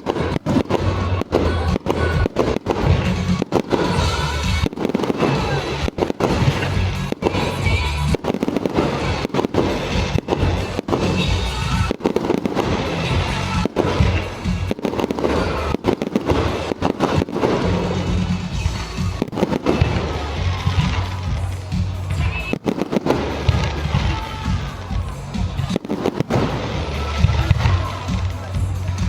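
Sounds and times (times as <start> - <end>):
fireworks bursting: 0.0 - 29.0
music playing: 0.0 - 29.0.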